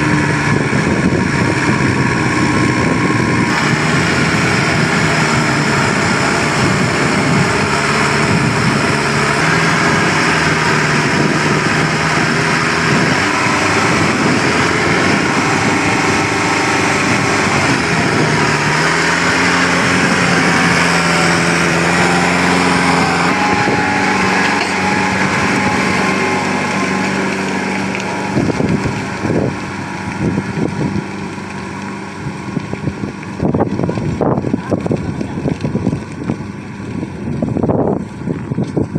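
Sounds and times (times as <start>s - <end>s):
tractor diesel engine running: 0.0s - 38.9s
wind gusts: 0.0s - 38.9s.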